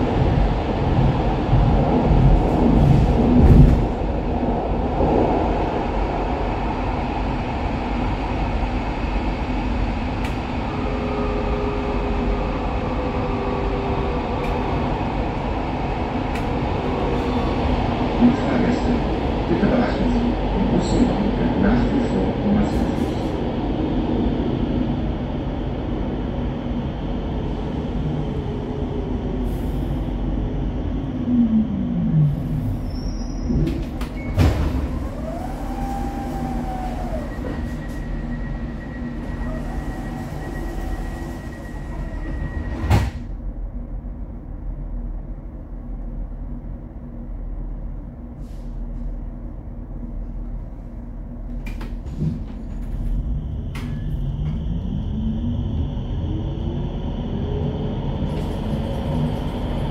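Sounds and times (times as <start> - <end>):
subway train rumble: 0.0 - 59.9.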